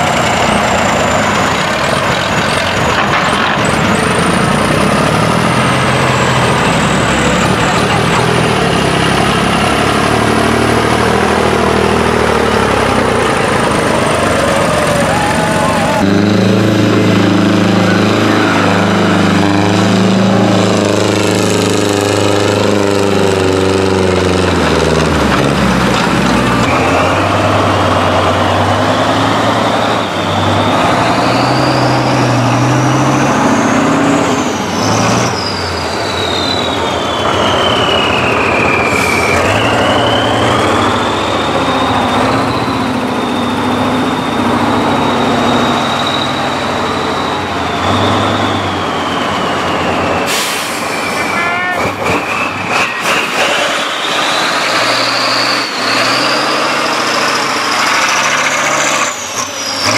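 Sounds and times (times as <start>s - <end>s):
tractor engine running: 0.0s - 50.5s.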